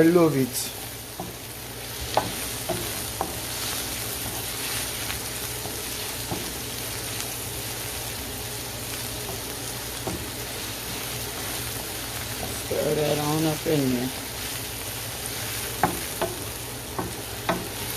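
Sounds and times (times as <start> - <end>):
vegetables sizzling in a skillet: 0.0 - 17.9.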